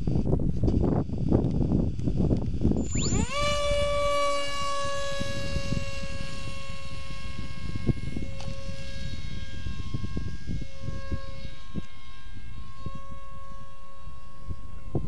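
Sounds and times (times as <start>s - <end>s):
rc plane electric motor whining: 0.0s - 15.0s
wind rumble on microphone: 0.0s - 15.0s.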